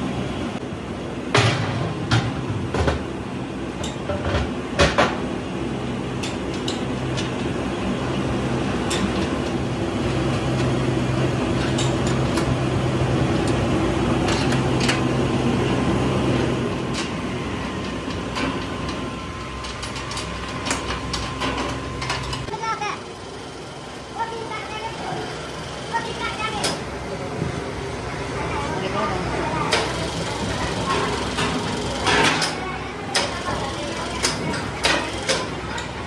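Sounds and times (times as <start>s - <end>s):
machinery hum: 0.0s - 36.0s.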